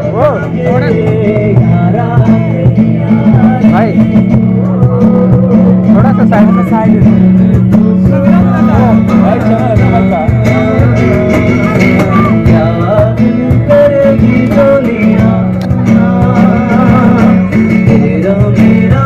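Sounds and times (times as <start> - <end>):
acoustic guitar: 0.0 - 19.0
cajon beat: 0.0 - 19.0
man singing into microphone: 0.0 - 19.0.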